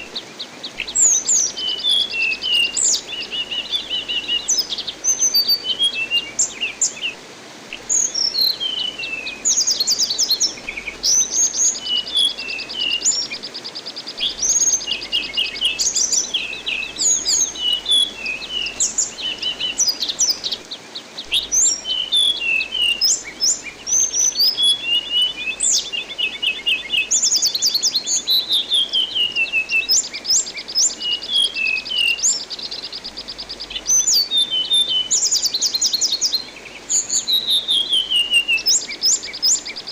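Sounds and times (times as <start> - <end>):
running water hiss: 0.0 - 39.9
songbird singing with trills: 0.0 - 39.9.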